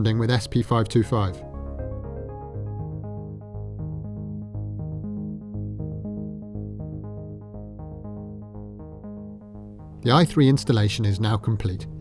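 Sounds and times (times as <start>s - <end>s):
synthesizer music with pulsing beat: 0.0s - 12.0s.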